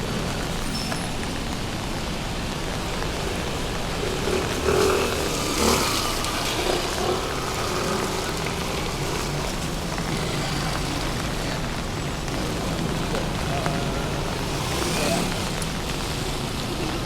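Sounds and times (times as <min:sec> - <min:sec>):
steady rain: 0:00.0 - 0:17.0
traffic on wet road: 0:00.0 - 0:17.0.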